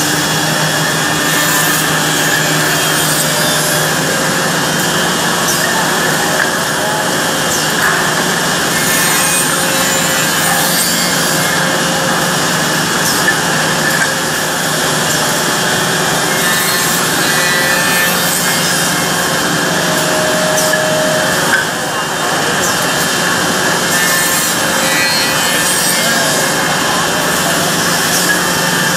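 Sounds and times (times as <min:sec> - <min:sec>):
motors humming: 0:00.0 - 0:28.9
woodworking machine rasping: 0:00.0 - 0:28.9.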